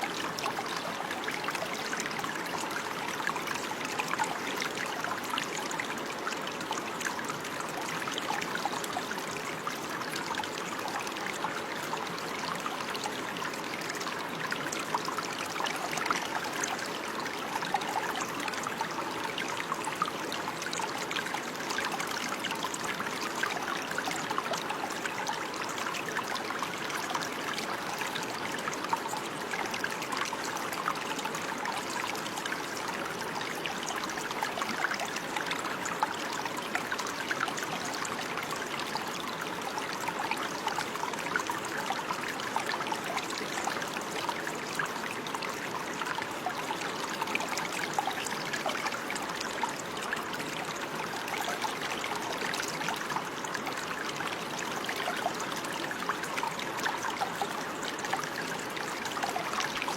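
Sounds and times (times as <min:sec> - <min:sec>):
stream trickling and splashing: 0:00.0 - 0:59.9.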